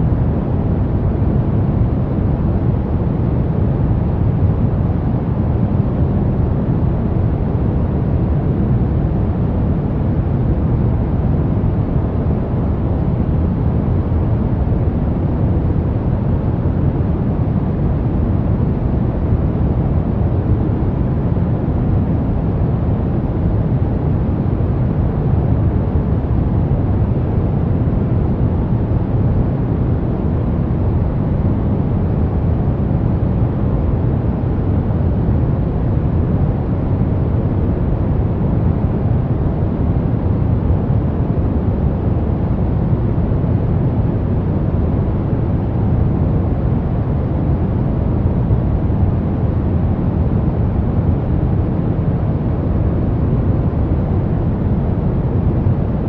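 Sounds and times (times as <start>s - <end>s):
brown noise rumbling hiss: 0.0s - 56.0s.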